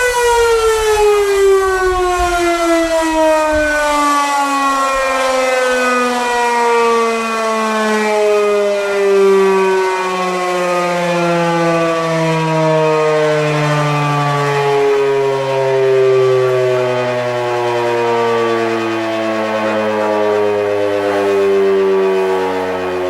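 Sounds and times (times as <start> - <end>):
warning siren winding down: 0.0 - 23.0.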